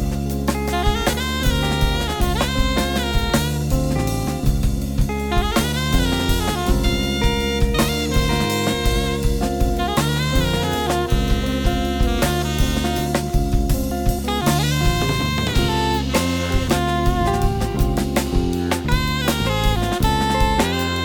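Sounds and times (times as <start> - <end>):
alto saxophone melody: 0.0 - 21.0
drum hits: 0.0 - 21.0
instrumental jazz quartet: 0.0 - 21.0.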